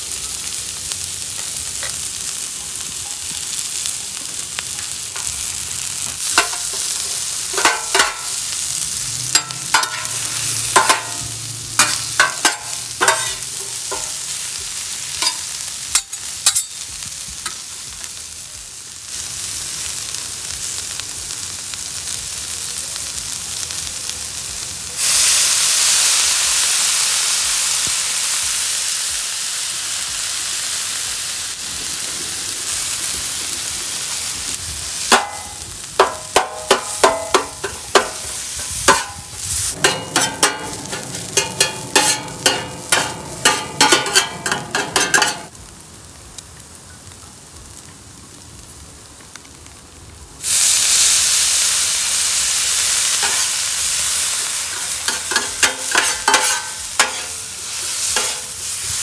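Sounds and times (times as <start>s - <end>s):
food sizzling on griddle: 0.0s - 59.0s.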